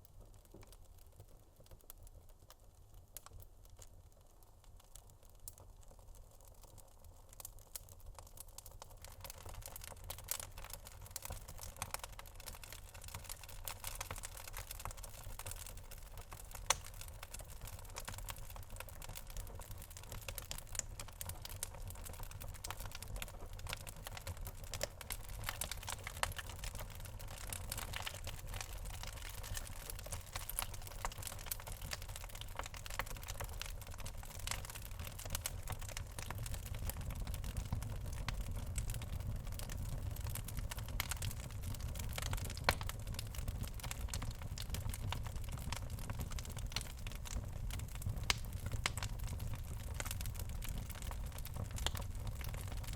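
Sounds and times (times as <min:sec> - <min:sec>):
fire popping: 0:00.0 - 0:52.9
wood fire crackling: 0:00.0 - 0:52.9.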